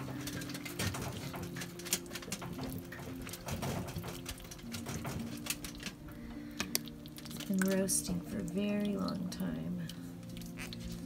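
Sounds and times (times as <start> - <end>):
liquid splashing and dripping: 0.0 - 11.0.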